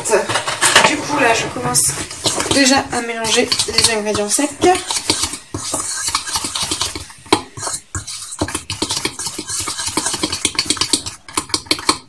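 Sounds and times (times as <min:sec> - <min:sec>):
utensil scraping mixing bowl: 0:00.0 - 0:12.0.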